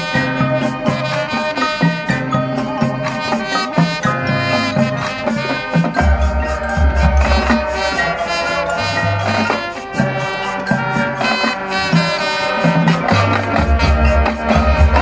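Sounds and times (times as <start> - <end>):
brass and woodwind chords: 0.0 - 15.0
pit percussion: 0.0 - 15.0.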